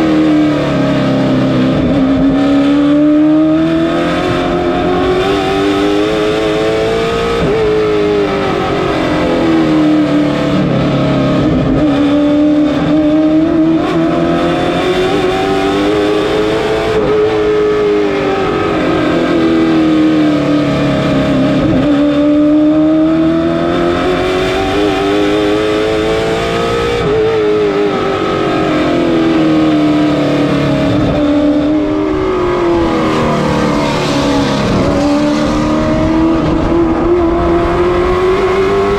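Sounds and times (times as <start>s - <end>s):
race car engine: 0.0s - 38.9s.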